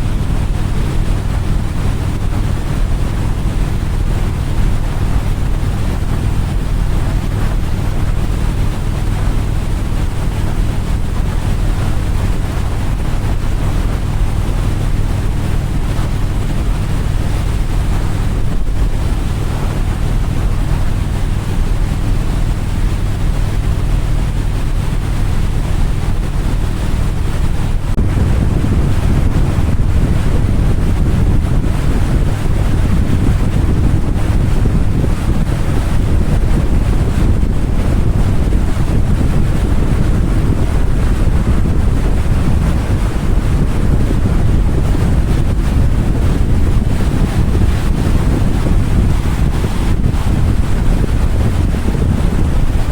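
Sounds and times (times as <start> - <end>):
low engine drone: 0.0 - 52.9
wind buffeting microphone: 0.0 - 52.9.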